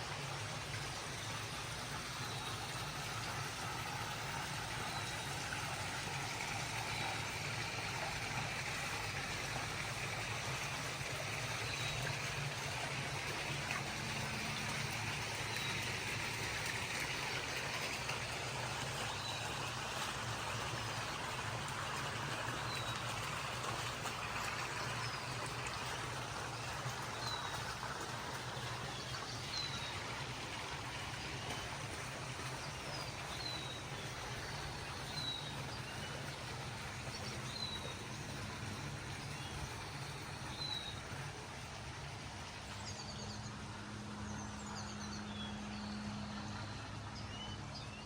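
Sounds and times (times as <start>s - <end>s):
steady outdoor noise: 0.0s - 48.0s.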